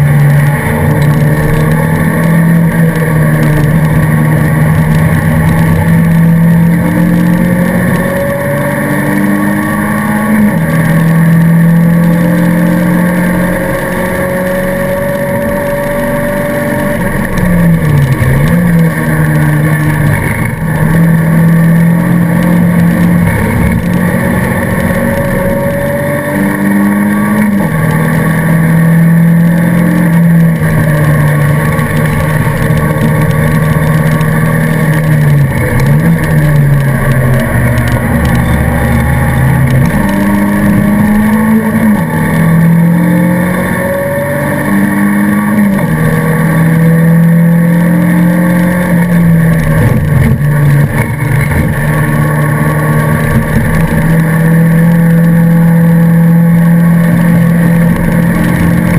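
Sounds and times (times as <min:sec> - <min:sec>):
race car engine: 0:00.0 - 0:58.9
road and wind noise: 0:00.0 - 0:58.9.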